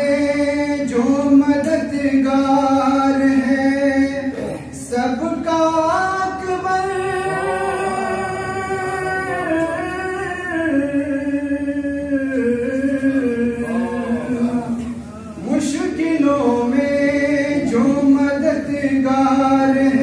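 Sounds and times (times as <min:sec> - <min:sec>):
man chanting devotional song: 0:00.0 - 0:20.0.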